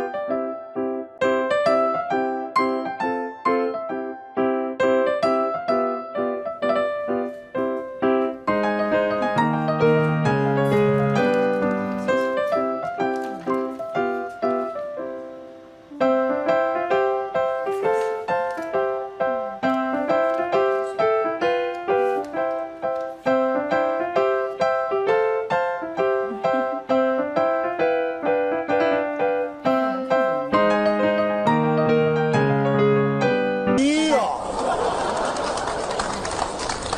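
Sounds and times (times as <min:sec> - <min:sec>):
piano melody: 0:00.0 - 0:34.2.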